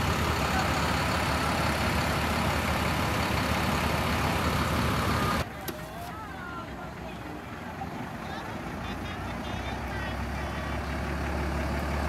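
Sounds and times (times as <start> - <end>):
diesel engines idling: 0.0 - 12.0.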